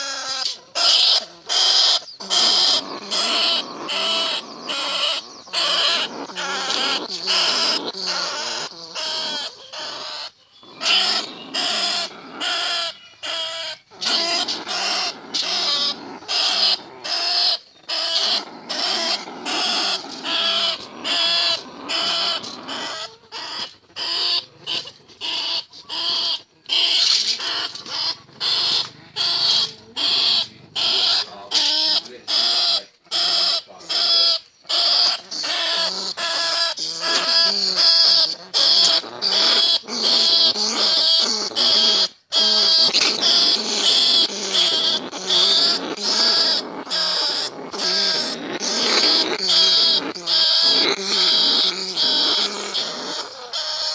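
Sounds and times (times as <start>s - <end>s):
rats squeaking: 0.0s - 53.9s.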